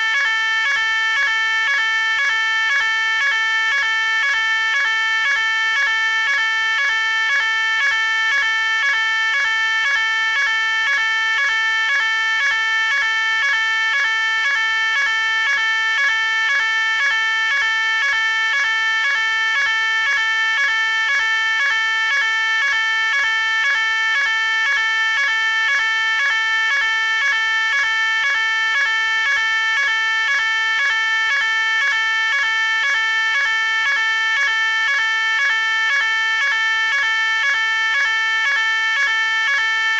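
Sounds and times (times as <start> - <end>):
fire alarm pulsing tone: 0.0 - 39.9.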